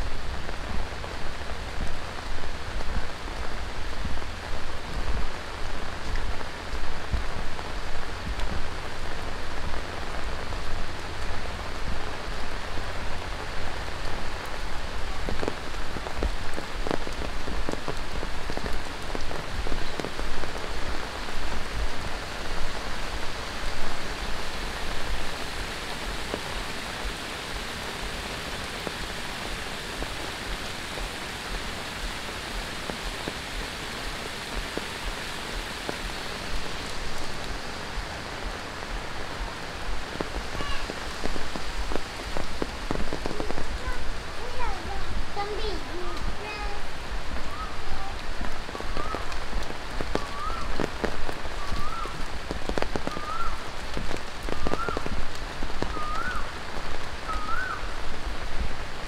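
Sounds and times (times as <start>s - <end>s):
heavy rain hissing on ground: 0.0s - 59.0s
sharp raindrops ticking: 0.0s - 59.0s.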